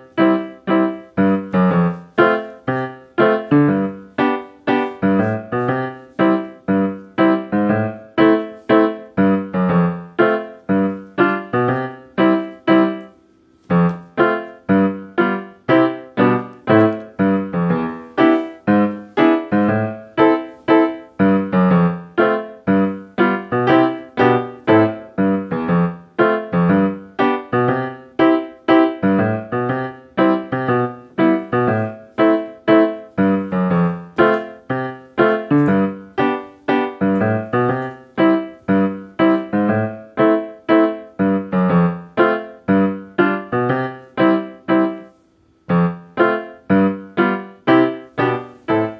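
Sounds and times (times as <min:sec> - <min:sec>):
gentle piano melody: 0:00.0 - 0:48.9.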